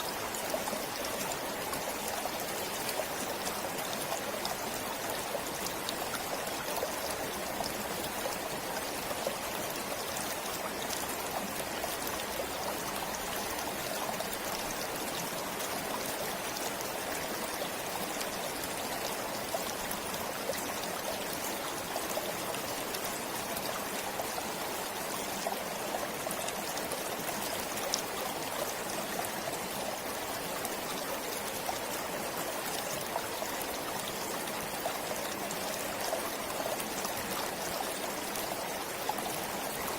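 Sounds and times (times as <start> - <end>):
stream water rushing and trickling: 0.0 - 39.9.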